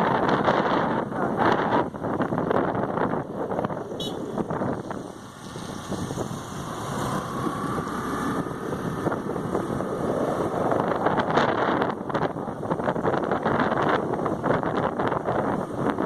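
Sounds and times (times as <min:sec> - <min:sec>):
moving vehicle noise: 0:00.0 - 0:16.0
wind buffeting microphone: 0:00.0 - 0:16.0.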